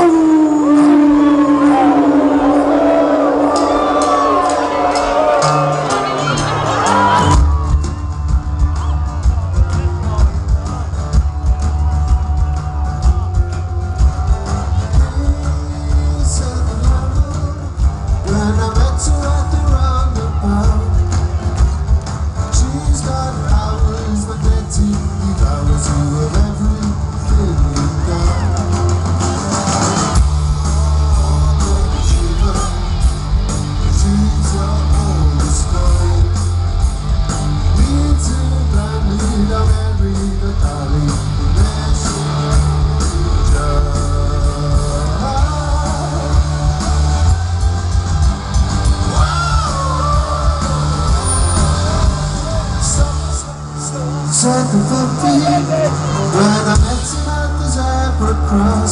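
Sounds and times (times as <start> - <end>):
drums keeping a steady beat: 0.0 - 58.9
electric guitars: 0.0 - 58.9
heavy bass: 0.0 - 58.9
live rock band playing: 0.0 - 58.9.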